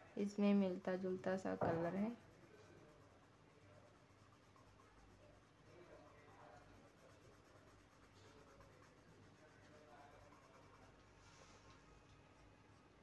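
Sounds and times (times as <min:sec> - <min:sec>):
pencil scratching on paper: 0:00.5 - 0:13.0.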